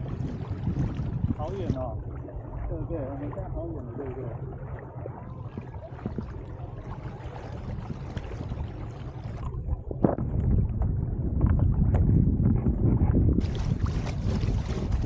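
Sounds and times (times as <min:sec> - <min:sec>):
paddle dipping: 0:00.0 - 0:15.0
water splashing along hull: 0:00.0 - 0:15.0
wind buffeting microphone: 0:00.0 - 0:15.0.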